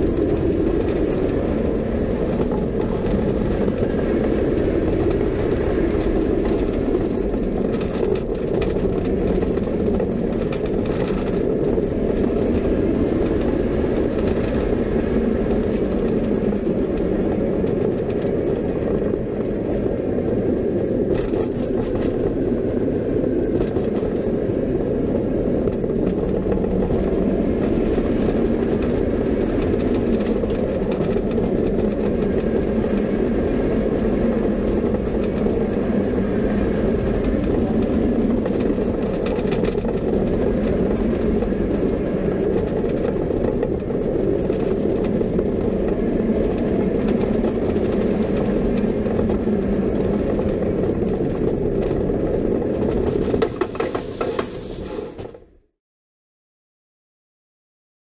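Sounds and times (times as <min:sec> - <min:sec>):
roller coaster rumbling on track: 0:00.0 - 0:55.6
rush of wind: 0:00.0 - 0:55.6.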